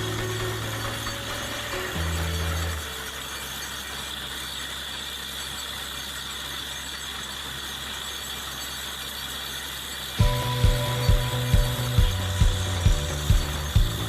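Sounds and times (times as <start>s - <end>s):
constant hiss: 0.0s - 14.0s
drilling rig mechanical hum: 0.0s - 14.0s.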